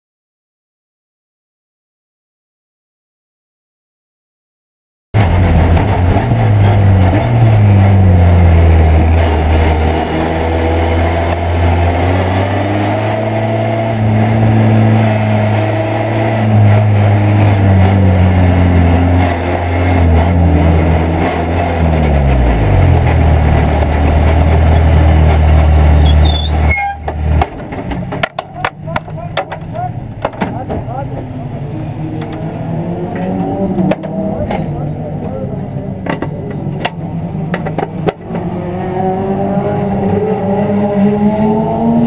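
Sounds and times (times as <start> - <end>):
racing car engine: 5.2 - 42.0.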